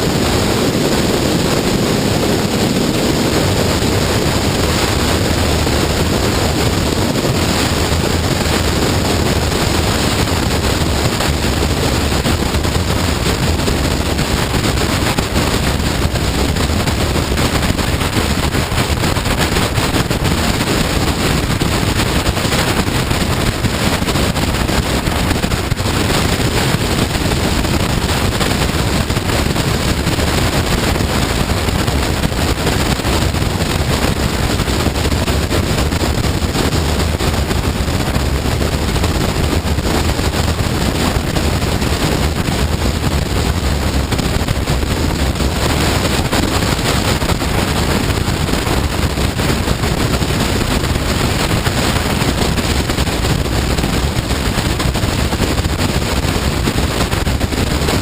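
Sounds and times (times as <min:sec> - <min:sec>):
wind rushing across microphone: 0:00.0 - 0:58.0.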